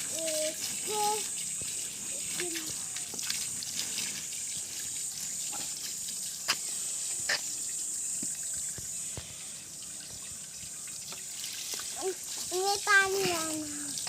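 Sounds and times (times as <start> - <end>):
water splashes: 0.0 - 14.0
water spray hissing: 0.0 - 14.0.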